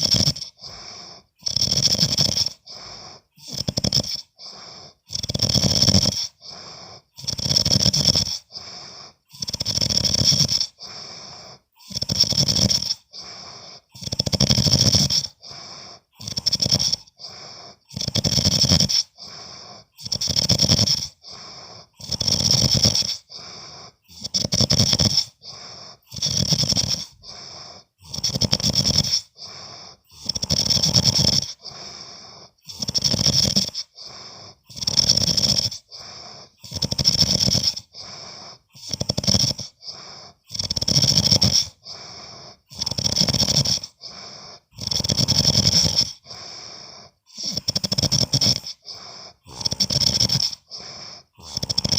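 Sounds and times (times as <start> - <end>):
man snoring: 0.0 - 51.9
quiet breath: 0.0 - 51.9.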